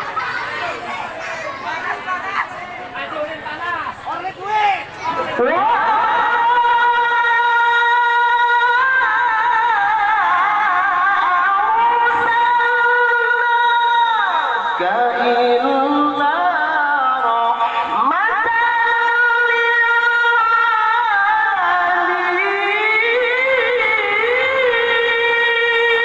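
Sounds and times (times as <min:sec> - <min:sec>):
man reciting melodically: 0:03.5 - 0:26.0.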